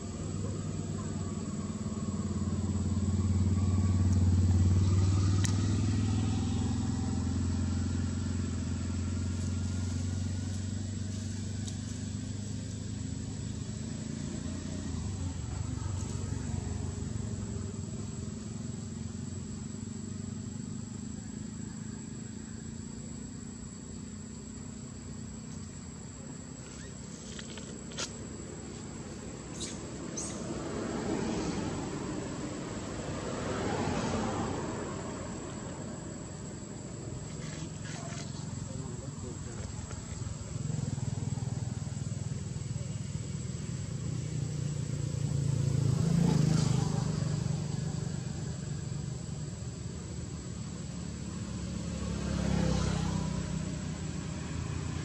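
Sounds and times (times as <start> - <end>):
vehicle passing: 0.0 - 25.4, 26.0 - 55.0
road traffic hum: 0.0 - 55.0.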